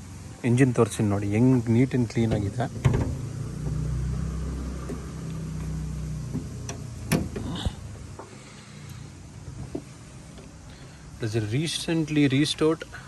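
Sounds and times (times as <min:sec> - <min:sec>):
diesel engine idling: 0:01.2 - 0:13.0.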